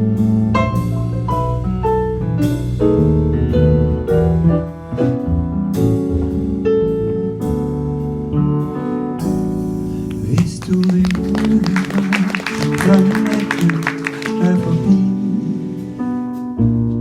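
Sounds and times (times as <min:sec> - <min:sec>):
bass: 0:00.0 - 0:17.0
jazz piano solo: 0:00.0 - 0:17.0.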